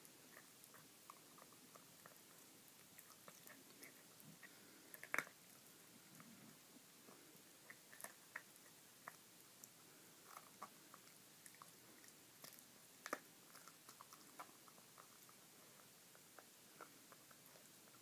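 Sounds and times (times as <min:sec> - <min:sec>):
teeth crunching and clicking: 0:00.0 - 0:05.4, 0:07.6 - 0:18.0
dog chewing on bone: 0:00.0 - 0:06.4, 0:07.6 - 0:18.0.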